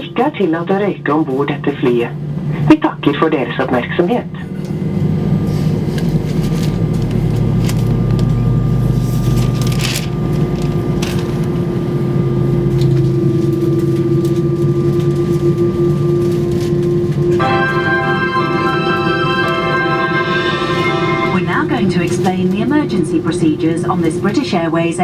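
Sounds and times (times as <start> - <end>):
aircraft cabin air systems hum: 0.0 - 25.0.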